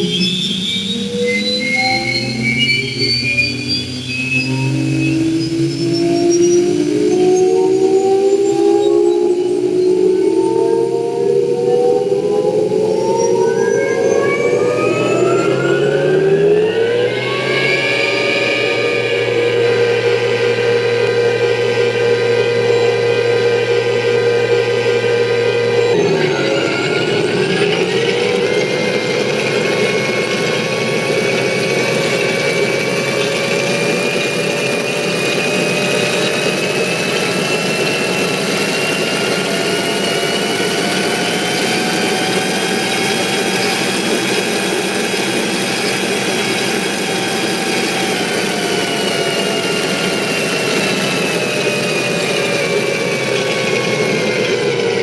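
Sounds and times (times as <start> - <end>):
engine whine from speaker: 0.0 - 55.0.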